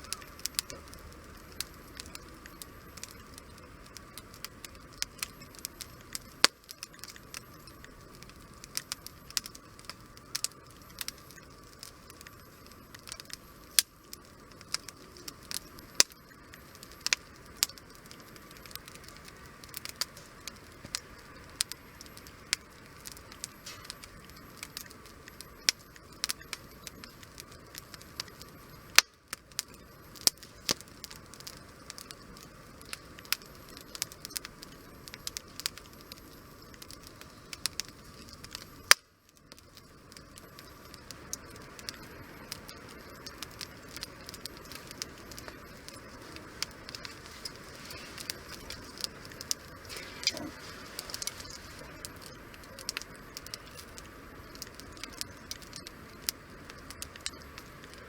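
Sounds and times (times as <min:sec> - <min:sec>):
low steady hiss: 0:00.0 - 0:58.0
wood fire crackling and popping: 0:00.0 - 0:58.0.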